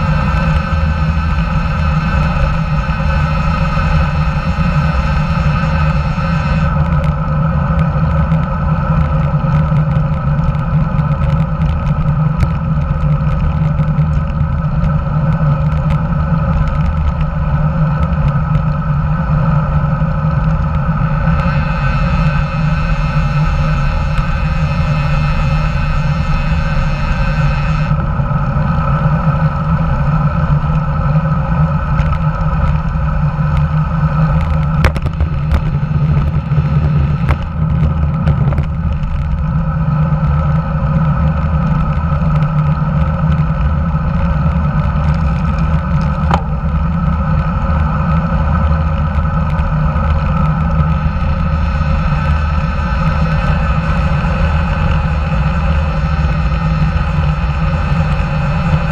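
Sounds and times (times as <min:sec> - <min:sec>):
bicycle road noise: 0:00.0 - 0:58.9
steady wind noise: 0:00.0 - 0:58.9.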